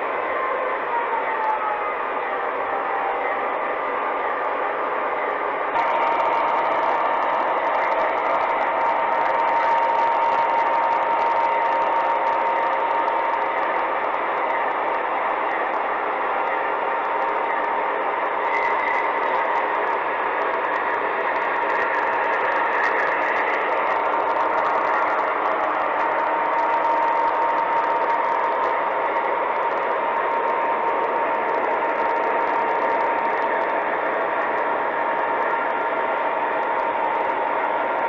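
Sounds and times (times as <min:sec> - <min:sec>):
model train rumble and whine: 0:00.0 - 0:38.0.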